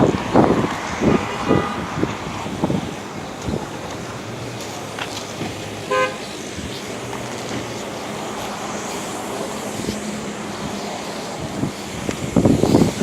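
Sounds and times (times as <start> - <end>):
loud ragged noise: 0.0 - 13.0
motor vehicle engine hum: 0.0 - 13.0.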